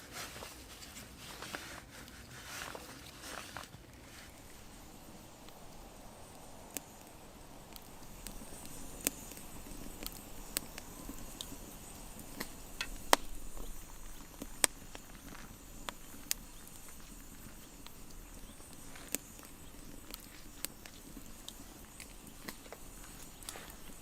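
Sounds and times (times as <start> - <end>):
faint steady hiss: 0.0 - 24.0
sharp clicks and light knocks: 4.2 - 24.0.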